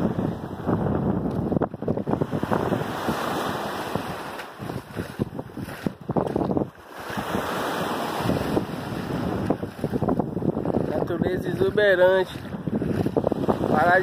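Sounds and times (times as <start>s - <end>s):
small waves washing on sand: 0.0s - 14.0s
wind on microphone: 0.0s - 14.0s.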